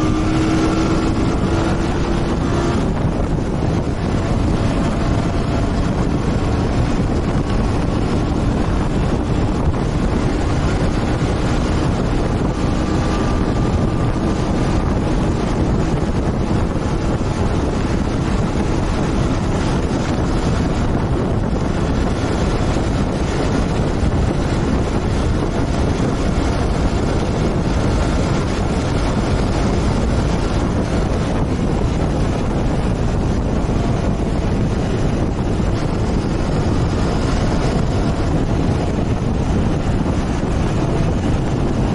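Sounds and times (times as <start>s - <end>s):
motorcycle engine drone: 0.0s - 41.9s
wind rush on microphone: 0.0s - 41.9s.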